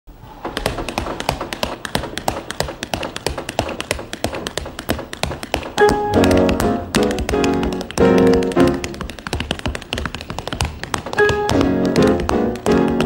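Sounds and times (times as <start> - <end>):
tap shoes on wooden stage: 0.4 - 13.0.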